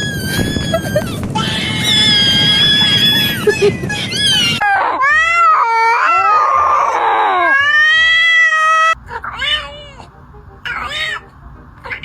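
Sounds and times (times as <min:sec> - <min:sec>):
cat meowing and yowling: 0:00.0 - 0:10.1, 0:10.7 - 0:12.0.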